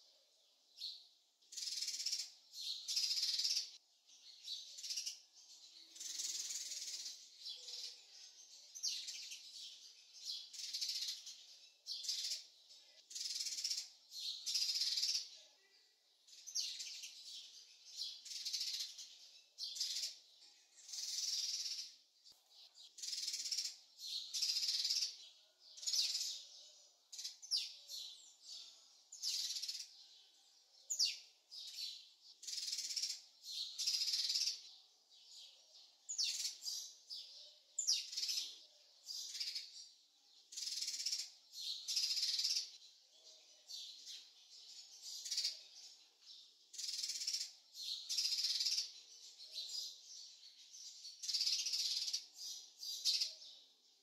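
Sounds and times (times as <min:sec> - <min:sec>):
birds singing: 0:00.0 - 0:54.0.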